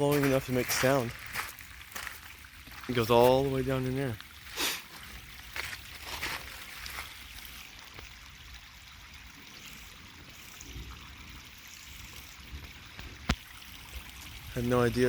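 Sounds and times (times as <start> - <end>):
stream of water trickling: 0.0 - 15.0.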